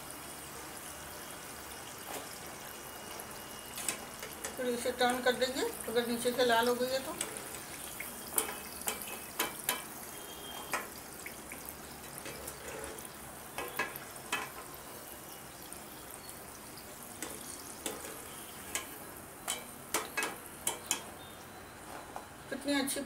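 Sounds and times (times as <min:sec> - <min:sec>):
hot oil sizzling: 0:00.0 - 0:23.0.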